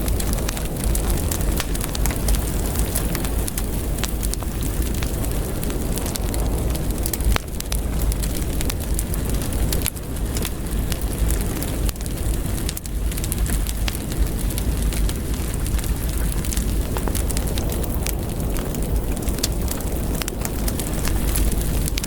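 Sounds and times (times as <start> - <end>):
deep rumble: 0.0 - 22.0
heavy rain on window glass: 0.0 - 22.0.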